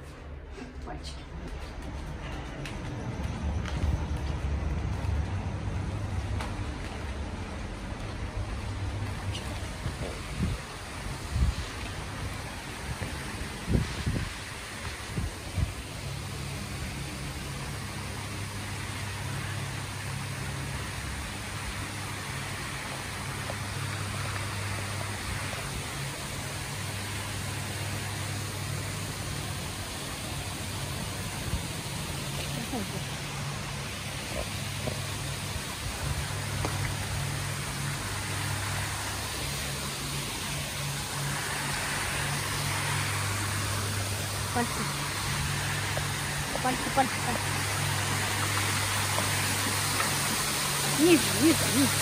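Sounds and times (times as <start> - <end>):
low steady hum: 0.0 - 52.0
waterfall pouring into pool: 6.3 - 52.0.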